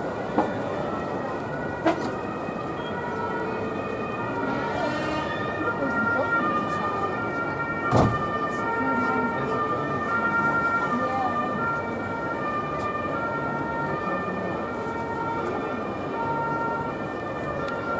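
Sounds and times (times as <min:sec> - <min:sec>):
city background noise: 0:00.0 - 0:17.9
two-tone emergency siren: 0:00.0 - 0:17.9.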